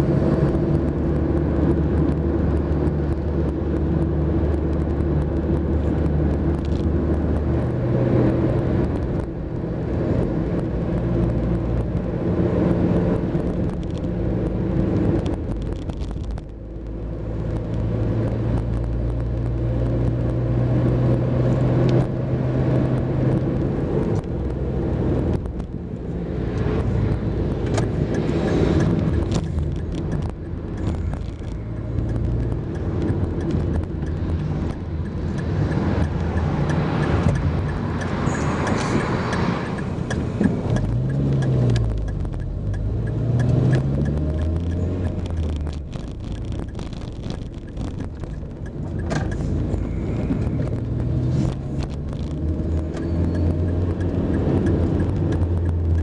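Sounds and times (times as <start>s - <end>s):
car engine hum: 0.0s - 56.0s
tyre and road noise: 0.0s - 56.0s.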